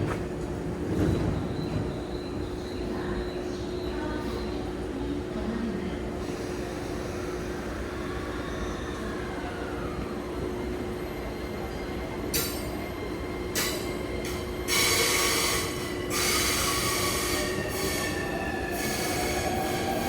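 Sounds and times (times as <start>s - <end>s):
train wheels squealing on rails: 0.9s - 4.8s, 6.2s - 20.0s.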